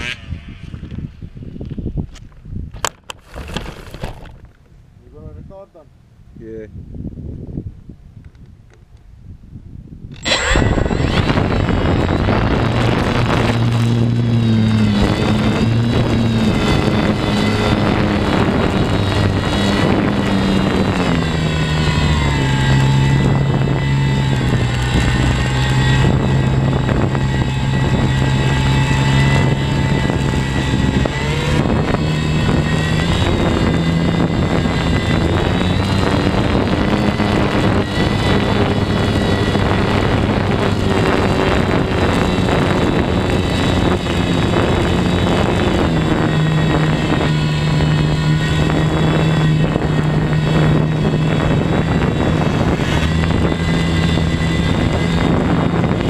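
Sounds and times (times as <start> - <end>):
electric motor and propeller whine: 0.0 - 5.8, 8.2 - 56.0.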